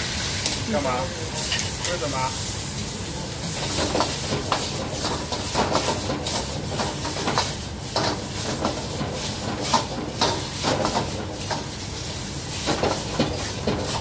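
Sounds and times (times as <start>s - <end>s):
gas burner hissing: 0.0s - 14.0s
meat sizzling in a wok: 0.0s - 14.0s.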